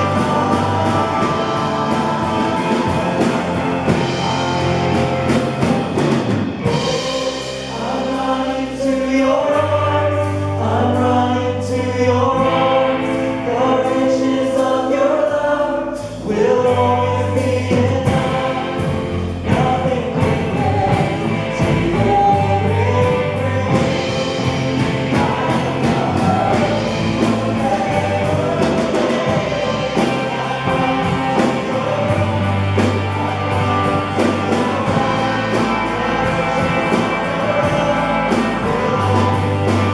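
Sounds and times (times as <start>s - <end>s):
bass notes: 0.0s - 39.9s
group of voices singing: 0.0s - 39.9s
guitar: 0.0s - 39.9s.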